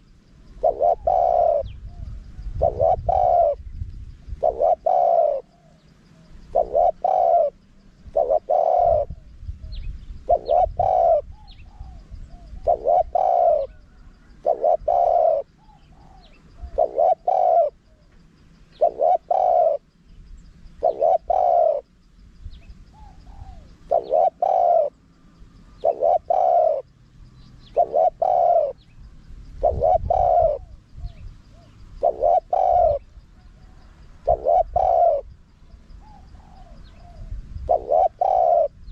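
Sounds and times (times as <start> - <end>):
dove cooing: 0.0 - 19.9, 20.7 - 21.9, 22.6 - 38.9.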